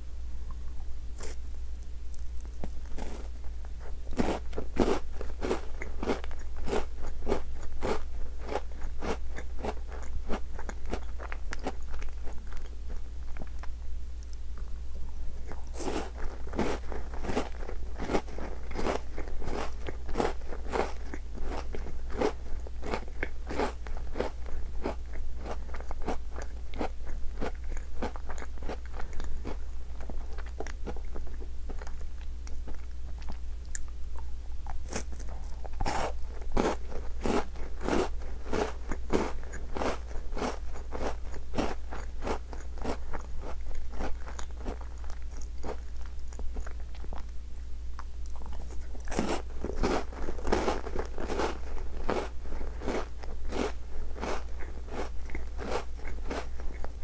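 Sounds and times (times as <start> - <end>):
biscuit crunching: 2.1 - 14.7, 15.4 - 33.9, 34.6 - 47.4, 48.0 - 57.0.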